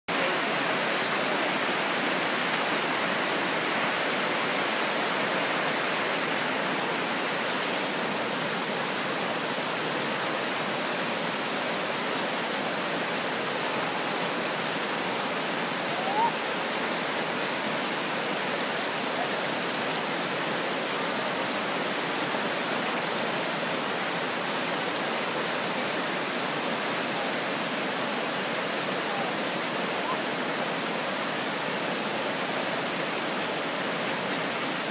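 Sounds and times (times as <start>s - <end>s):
river rushing through rapids: 0.1s - 34.9s.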